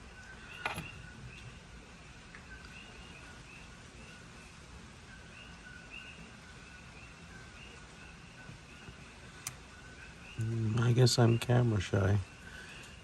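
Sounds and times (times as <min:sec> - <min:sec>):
faint background hiss: 0:00.0 - 0:13.0
frogs chirping in chorus: 0:00.0 - 0:13.0.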